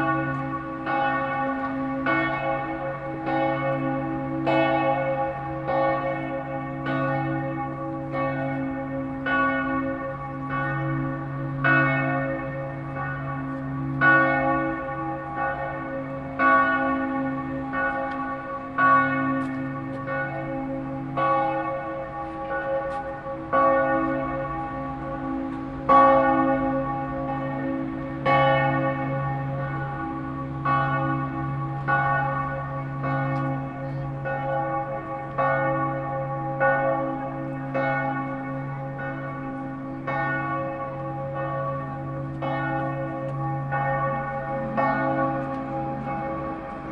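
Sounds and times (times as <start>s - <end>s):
church bells ringing: 0.0s - 46.9s.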